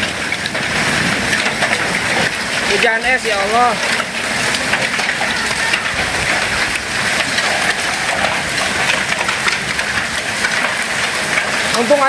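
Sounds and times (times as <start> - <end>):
hail and rain falling: 0.0 - 12.0.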